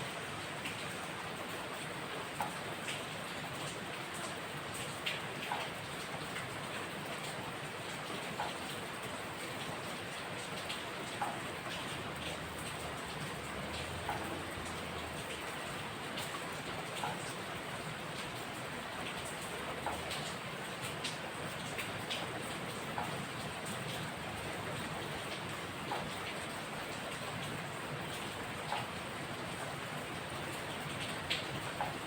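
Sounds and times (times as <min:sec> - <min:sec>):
close raindrops landing: 0:00.0 - 0:32.0
steady rain falling: 0:00.0 - 0:32.0.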